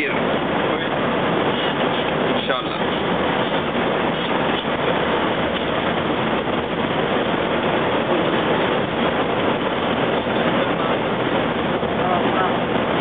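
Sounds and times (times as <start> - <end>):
bus road and engine noise: 0.0 - 13.0.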